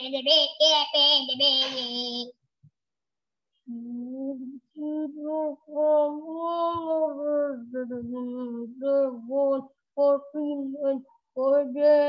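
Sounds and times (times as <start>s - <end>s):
child singing: 0.0s - 2.3s, 3.7s - 12.0s.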